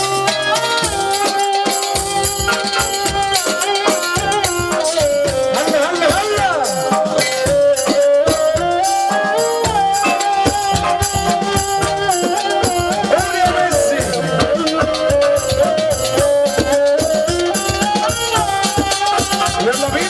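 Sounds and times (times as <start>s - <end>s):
fast drum and shaker rhythm: 0.0s - 20.0s
instrumental wedding music: 0.0s - 20.0s.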